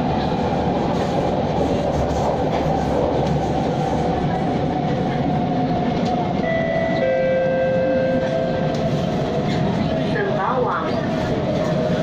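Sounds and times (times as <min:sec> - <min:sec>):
train wheels on rail: 0:00.0 - 0:12.0.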